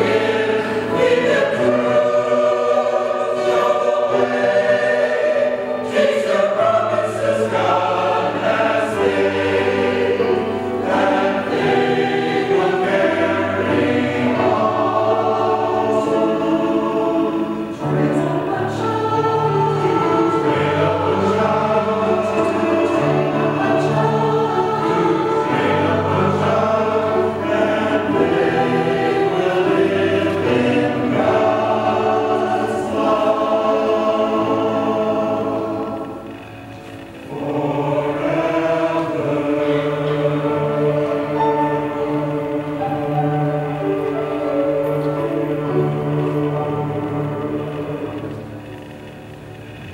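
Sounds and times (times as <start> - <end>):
choir singing in parts: 0.0 - 49.9
piano accompaniment: 0.0 - 49.9.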